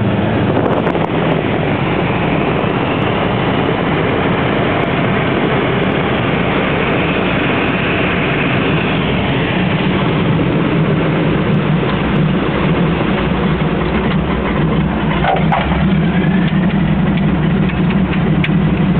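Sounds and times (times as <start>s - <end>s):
radial engine droning: 0.0s - 18.9s.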